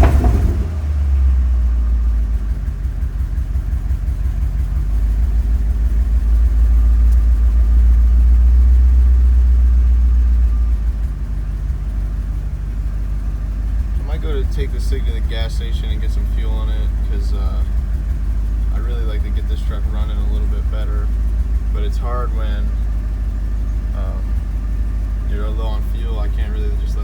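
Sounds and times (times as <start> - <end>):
truck engine running rough: 0.0 - 27.0.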